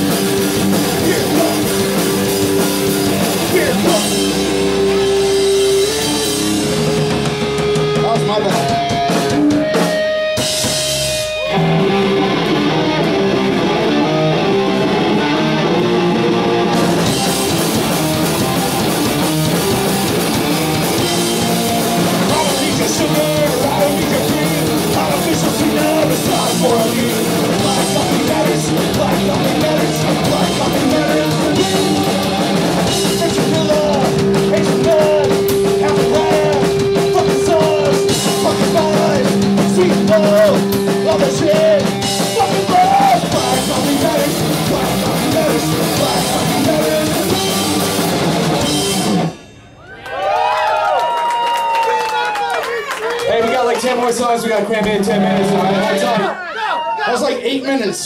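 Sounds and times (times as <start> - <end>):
distorted electric guitars: 0.0 - 49.8, 53.3 - 56.3
drum kit: 0.0 - 50.7, 53.4 - 56.3.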